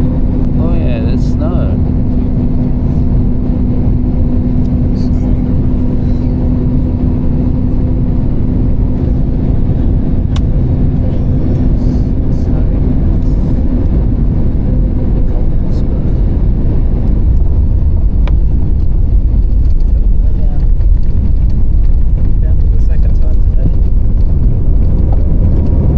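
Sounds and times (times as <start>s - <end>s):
airliner cabin drone: 0.0s - 25.9s.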